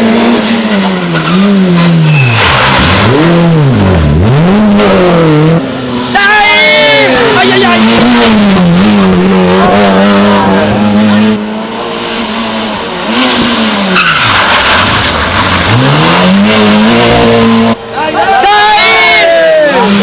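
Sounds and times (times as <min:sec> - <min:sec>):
rally car engine revving: 0:00.0 - 0:18.1, 0:19.5 - 0:20.0.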